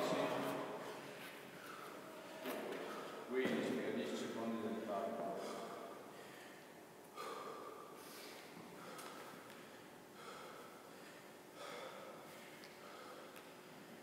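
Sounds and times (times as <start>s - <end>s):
heavy breathing: 0.8s - 3.4s, 5.2s - 14.0s.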